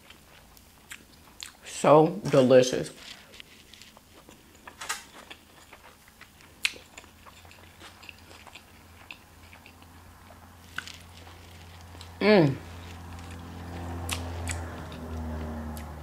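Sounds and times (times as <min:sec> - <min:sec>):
person chewing food: 0:00.0 - 0:01.7, 0:03.1 - 0:16.0.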